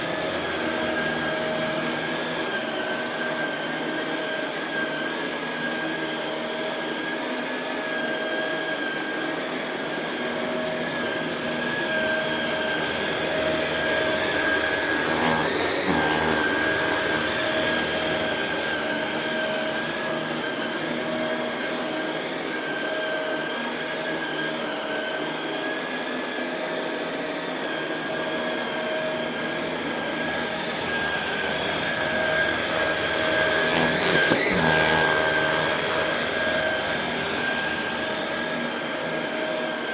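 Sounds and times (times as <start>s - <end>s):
vacuum cleaner running on carpet: 0.0s - 39.9s.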